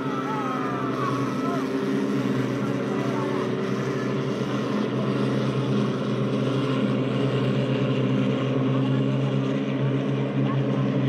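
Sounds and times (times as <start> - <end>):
race boat engines droning: 0.0 - 11.0.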